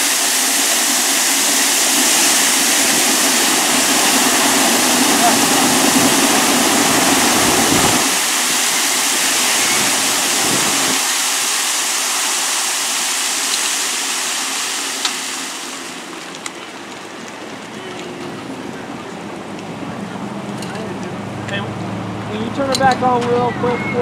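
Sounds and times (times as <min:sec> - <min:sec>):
water spraying from broken main: 0:00.0 - 0:24.0.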